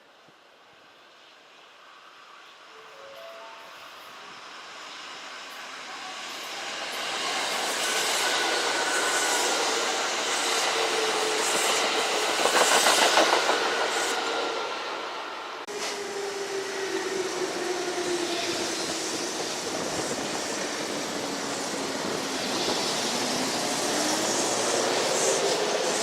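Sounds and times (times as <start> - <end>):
electric train passing: 0.6 - 26.0.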